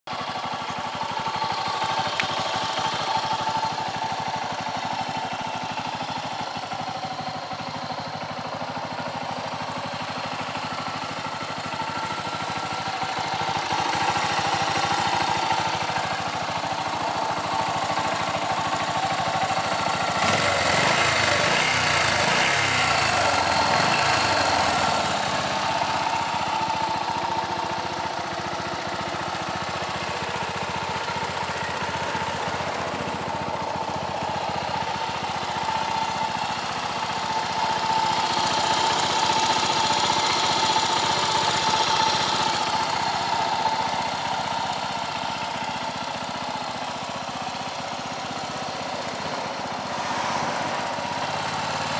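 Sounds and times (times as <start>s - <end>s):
motorcycle engine idling and revving: 0.1s - 51.9s.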